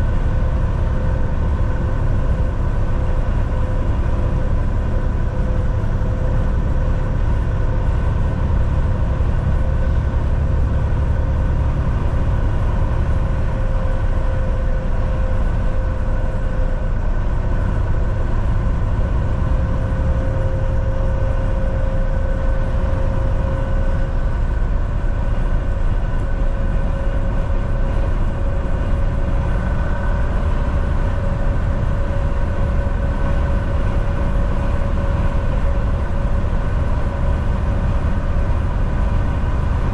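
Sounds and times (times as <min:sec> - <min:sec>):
constant whine: 0:00.0 - 0:39.9
low road rumble: 0:00.0 - 0:39.9
truck engine drone: 0:00.0 - 0:39.9.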